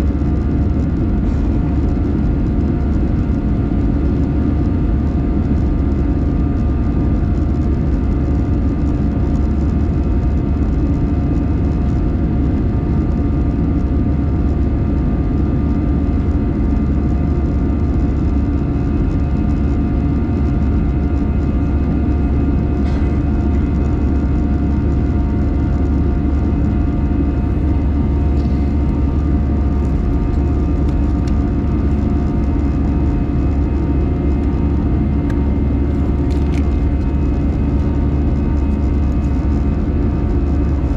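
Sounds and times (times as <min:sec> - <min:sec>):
airplane cabin engine drone: 0:00.0 - 0:40.9.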